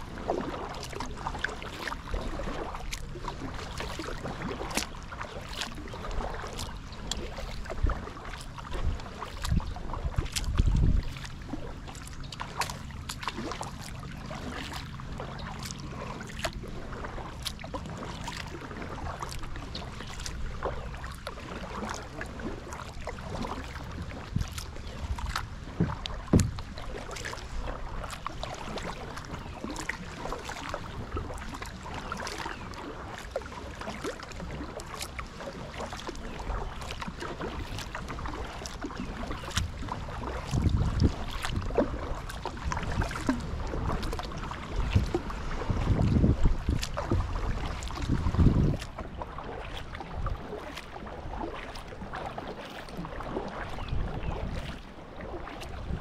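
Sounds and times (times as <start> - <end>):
small paddle splashes: 0.0 - 56.0
water dripping off paddle: 0.0 - 56.0.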